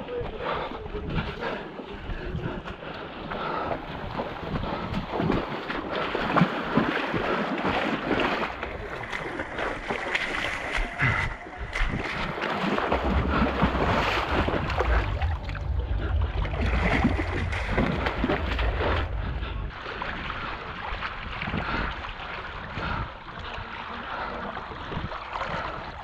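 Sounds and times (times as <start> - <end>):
wading through muddy water: 0.0 - 26.0
wind buffeting microphone: 0.0 - 26.0.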